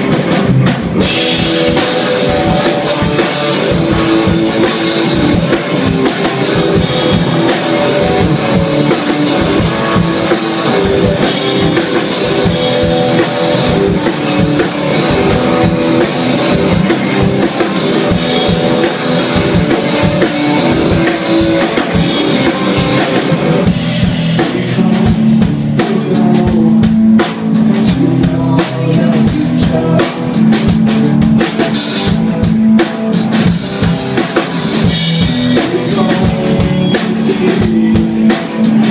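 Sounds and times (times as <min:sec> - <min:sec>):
drum kit: 0:00.0 - 0:38.9
electric guitar: 0:00.0 - 0:38.9.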